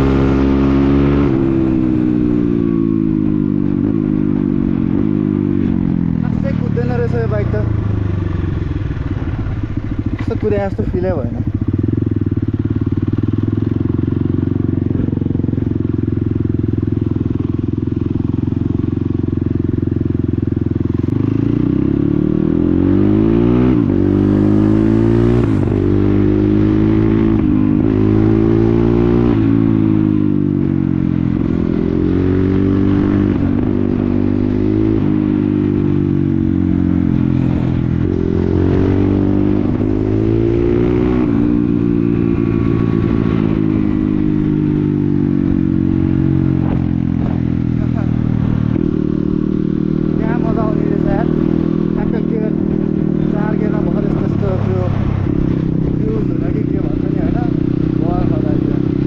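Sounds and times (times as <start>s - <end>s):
dirt bike engine revving: 0.0s - 15.9s, 16.7s - 59.0s.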